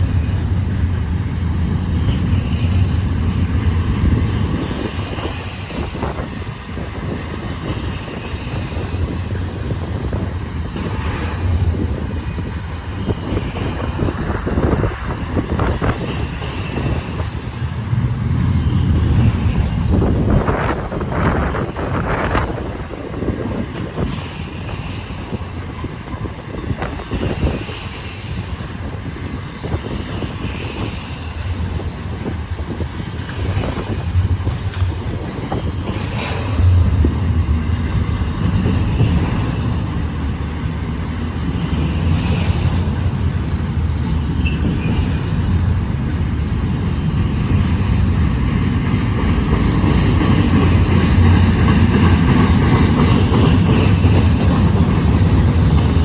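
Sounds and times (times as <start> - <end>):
freight train rumble: 0.0 - 56.0
train wheels clicking over rail joints: 0.0 - 56.0.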